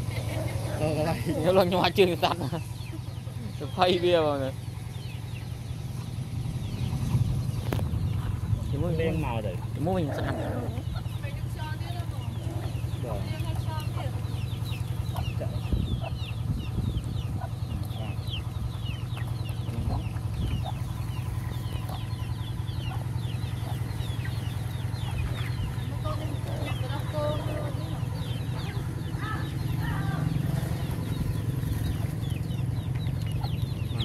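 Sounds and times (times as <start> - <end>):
chickens clucking: 0.0 - 34.0
steady low hum: 0.0 - 34.0.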